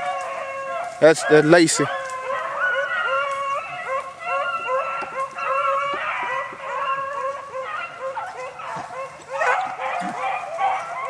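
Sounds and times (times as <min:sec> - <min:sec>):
beagles baying: 0:00.0 - 0:11.0.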